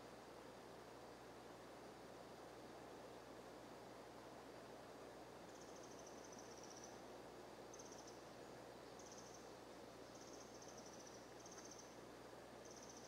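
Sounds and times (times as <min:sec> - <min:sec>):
faint even hiss: 0:00.0 - 0:13.0.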